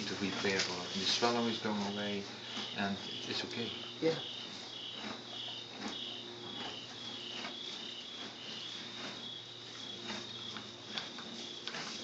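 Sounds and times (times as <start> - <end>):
repeating insect chirp: 0.0 - 11.6
insects trilling: 0.0 - 12.0.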